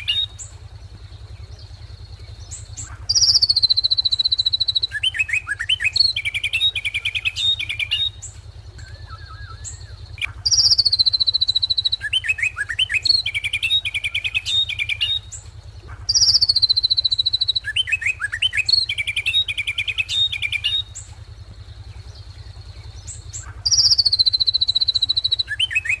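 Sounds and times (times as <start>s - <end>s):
bird song whistles and chirps: 0.0s - 26.0s
low steady hum: 0.0s - 26.0s.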